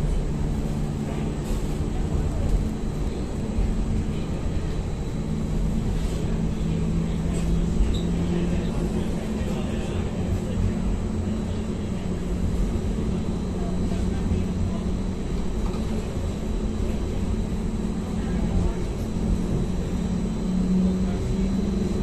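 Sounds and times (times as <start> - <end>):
tram rumbling: 0.0 - 22.0.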